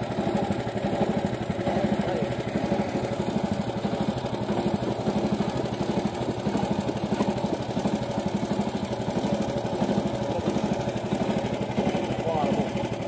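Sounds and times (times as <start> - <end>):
tractor engine pulsing: 0.0 - 13.0.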